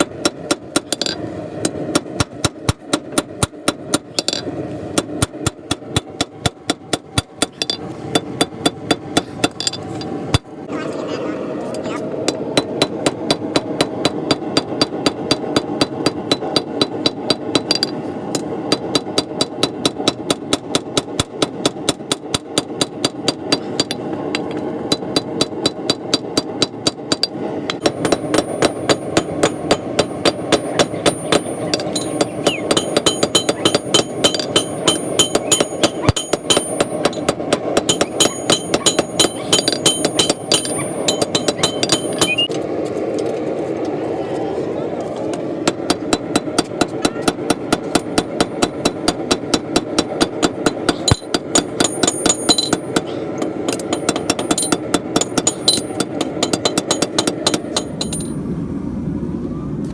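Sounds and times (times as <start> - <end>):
hammer striking metal on anvil: 0.0 - 10.5, 12.3 - 42.5, 45.6 - 58.4
steady rumble: 0.0 - 59.9.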